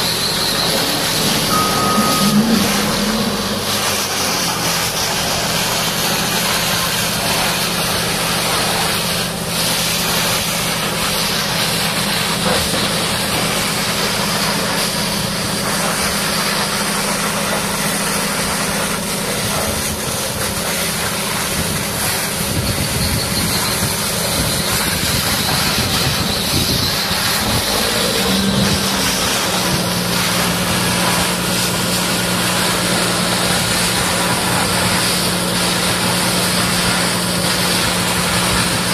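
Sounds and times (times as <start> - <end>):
heavy engine idling: 0.0 - 38.9.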